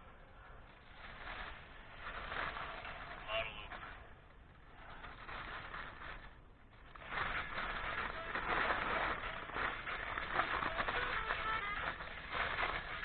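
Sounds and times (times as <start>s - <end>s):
aluminium foil crinkling: 0.4s - 13.0s.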